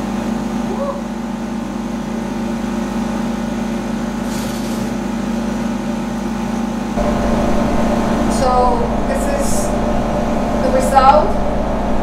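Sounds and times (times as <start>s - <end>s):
ventilation equipment humming: 0.0s - 12.0s.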